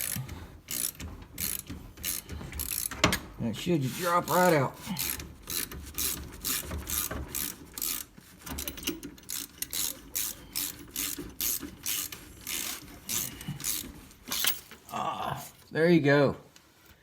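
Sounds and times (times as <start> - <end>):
ratcheting wrench clicking: 0.0 - 3.2, 4.2 - 14.8.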